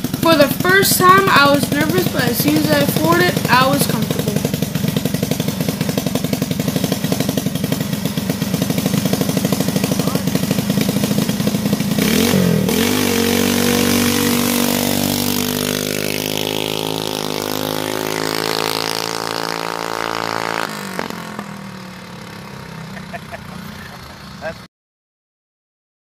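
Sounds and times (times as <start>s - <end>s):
single-cylinder engine revving: 0.0s - 24.7s.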